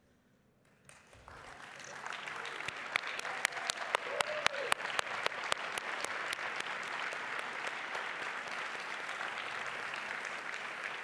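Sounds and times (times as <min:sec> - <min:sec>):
audience applauding: 0:00.8 - 0:11.0.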